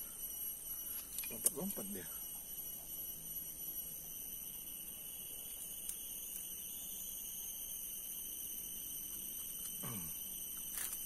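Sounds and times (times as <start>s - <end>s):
shrill insect chorus: 0.0s - 11.0s.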